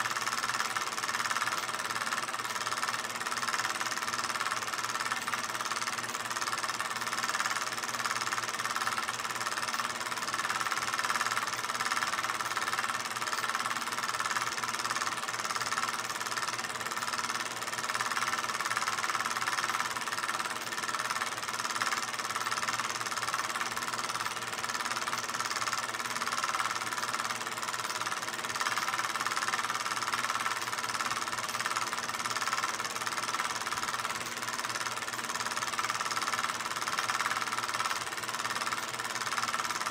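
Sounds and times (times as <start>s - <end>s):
film projector whirring and rattling: 0.0s - 39.9s.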